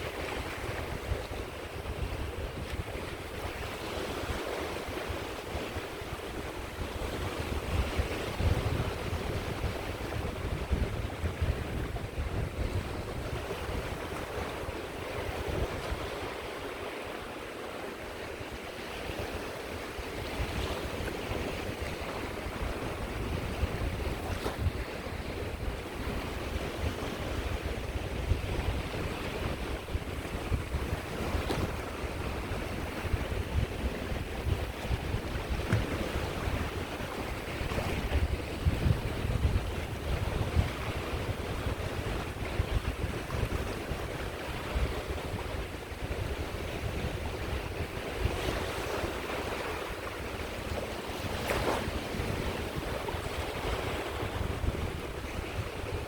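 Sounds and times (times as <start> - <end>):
sea waves breaking on shore: 0.0 - 56.0
wind rumble on microphone: 0.0 - 56.0.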